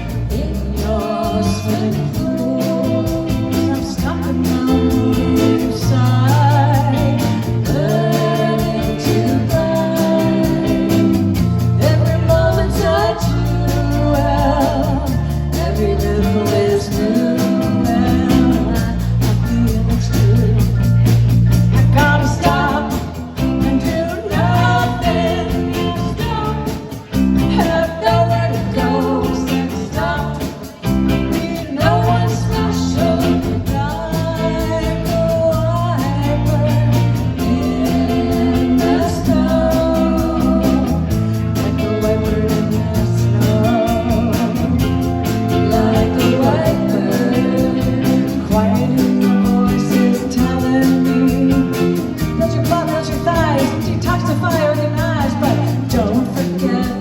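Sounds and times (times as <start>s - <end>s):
guitar: 0.0s - 57.0s
live band playing: 0.0s - 57.0s
person singing: 0.0s - 57.0s.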